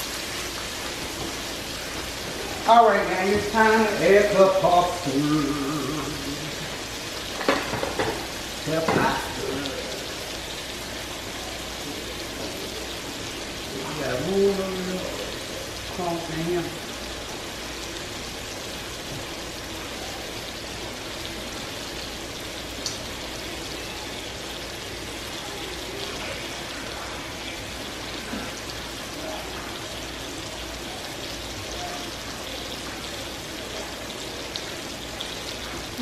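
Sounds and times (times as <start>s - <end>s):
water boiling in pot: 0.0s - 36.0s.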